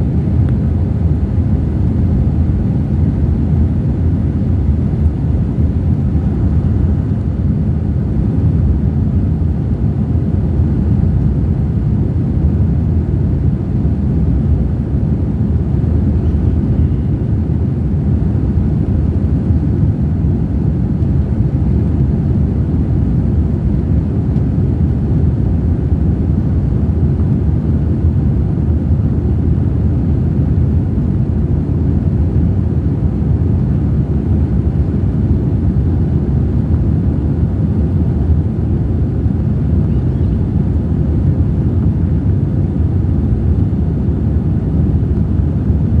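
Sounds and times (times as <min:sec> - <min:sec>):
jet engine low rumble: 0:00.0 - 0:46.0.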